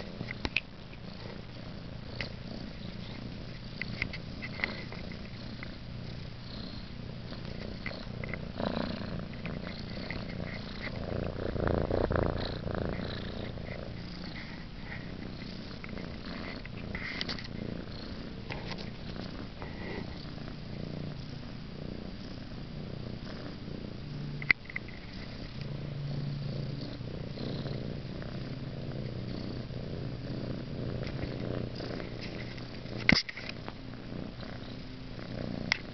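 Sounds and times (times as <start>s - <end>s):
kitten purring: 0.0s - 35.9s.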